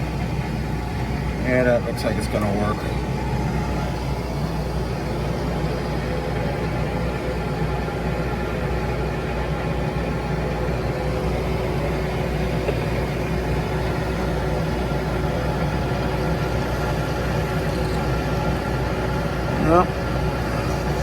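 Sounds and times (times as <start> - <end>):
metal lathe humming: 0.0 - 21.0.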